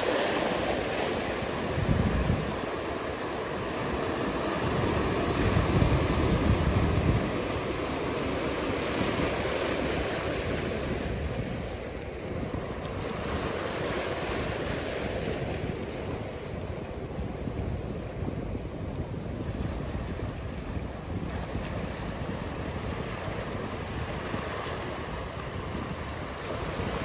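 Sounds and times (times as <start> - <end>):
waves breaking: 0.0 - 27.0
wind noise on microphone: 0.0 - 27.0.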